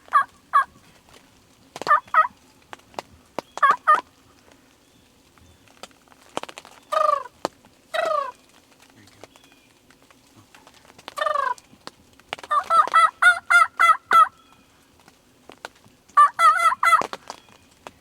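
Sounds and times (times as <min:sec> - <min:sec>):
wild turkeys calling: 0:00.0 - 0:15.2, 0:16.1 - 0:17.9.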